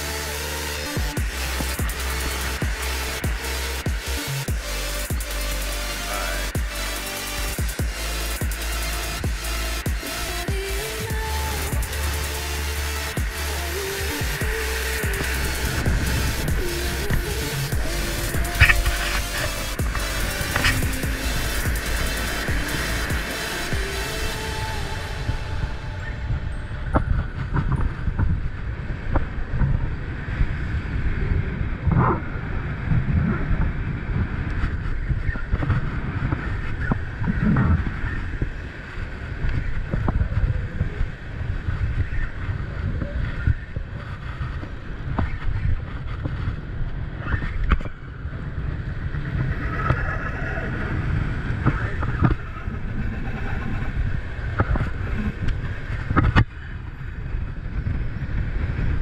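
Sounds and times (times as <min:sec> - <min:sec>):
waves washing: 0:00.0 - 0:32.9, 0:33.5 - 0:59.0
wind buffeting microphone: 0:07.4 - 0:59.0.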